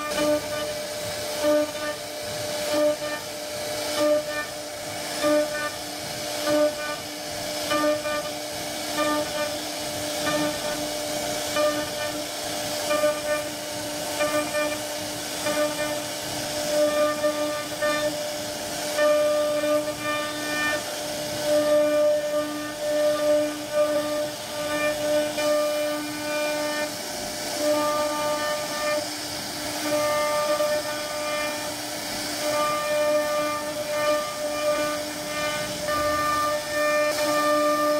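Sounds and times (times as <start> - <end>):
hiss of cutting wood: 0.0 - 37.9
wood router spindle whine: 0.0 - 37.9.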